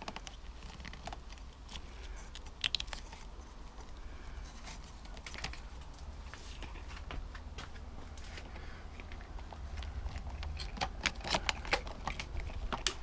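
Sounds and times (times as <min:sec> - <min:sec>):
hands rustling wiring: 0:00.0 - 0:13.0.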